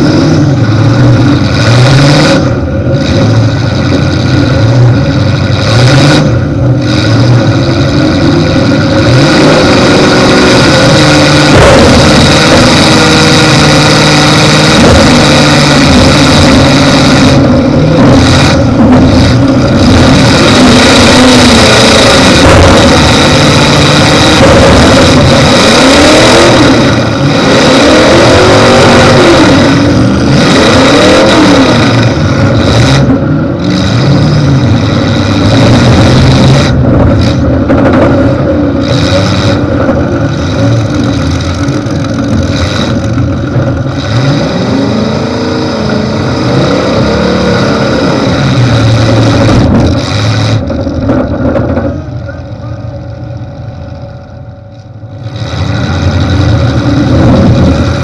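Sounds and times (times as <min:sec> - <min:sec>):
car engine revving loud: 0:00.0 - 0:58.0.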